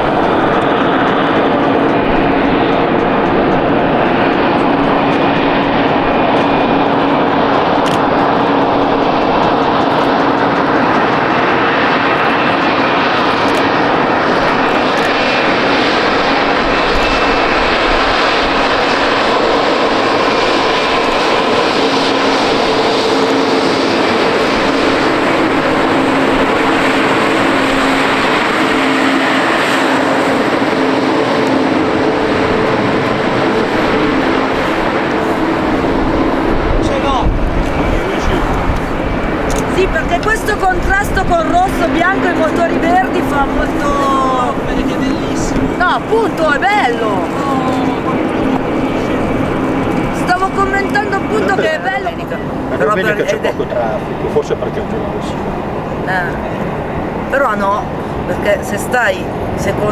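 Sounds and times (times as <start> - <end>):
held whining tones: 0.0 - 59.9
jet engines running loud: 0.0 - 59.9.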